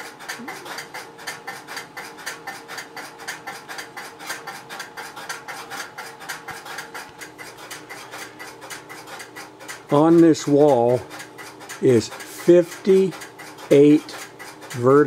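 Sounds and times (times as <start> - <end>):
relays clicking rapidly: 0.0 - 15.0
steady hum: 0.0 - 15.0.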